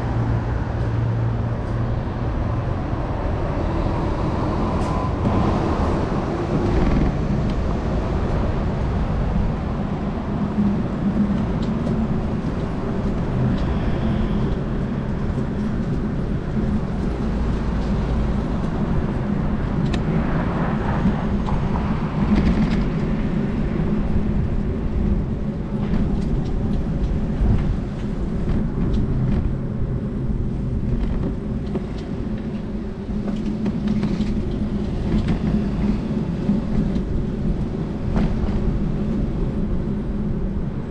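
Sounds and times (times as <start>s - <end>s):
road and traffic noise: 0.0s - 40.9s
wind on microphone: 0.0s - 40.9s.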